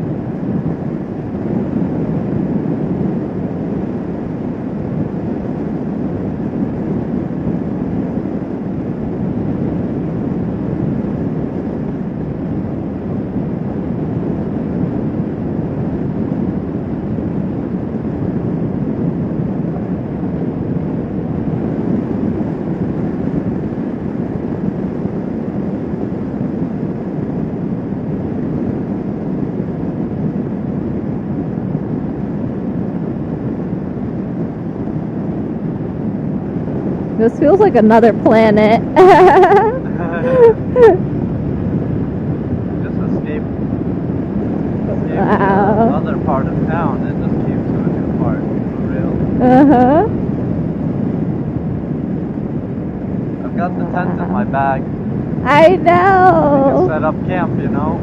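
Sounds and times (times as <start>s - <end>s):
motorcycle cruising: 0.0s - 58.0s.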